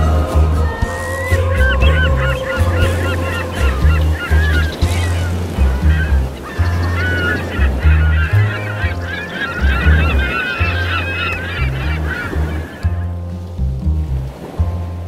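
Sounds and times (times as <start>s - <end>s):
birds honking chatter: 0.0s - 13.2s
music with pulsing bass: 0.0s - 15.0s.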